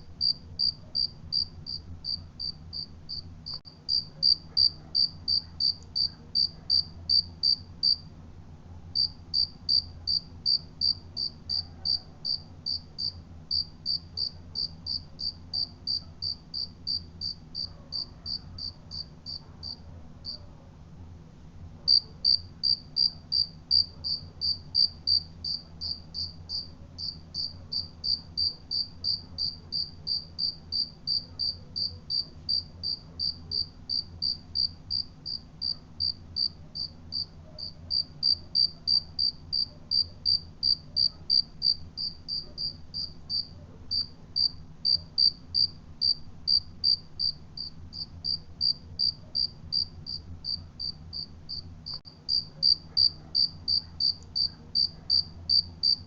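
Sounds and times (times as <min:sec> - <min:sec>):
cricket chirping: 0:00.2 - 0:08.0, 0:09.0 - 0:20.4, 0:21.9 - 0:56.0.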